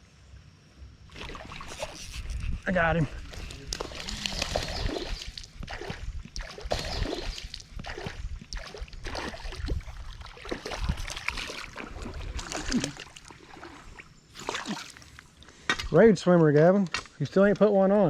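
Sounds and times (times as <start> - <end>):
water splashing and sloshing: 1.1 - 16.0.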